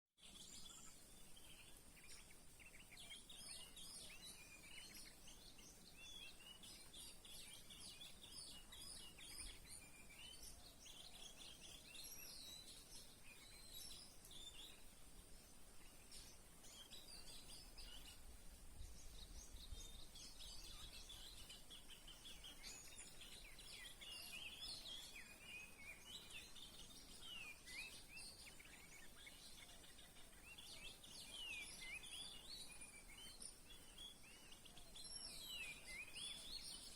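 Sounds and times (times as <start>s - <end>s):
songbirds chirping and whistling: 0.2s - 36.9s
steady high-pitched hiss: 0.2s - 36.9s.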